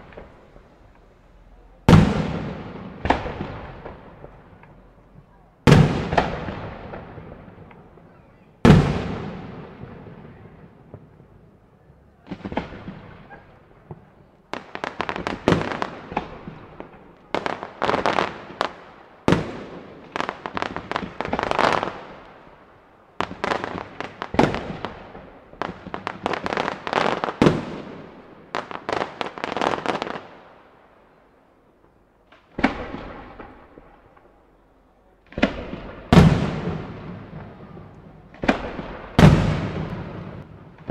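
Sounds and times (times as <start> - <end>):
rapid firework bangs and crackle: 0.0 - 11.3, 12.2 - 30.6, 32.3 - 34.4, 35.2 - 40.9.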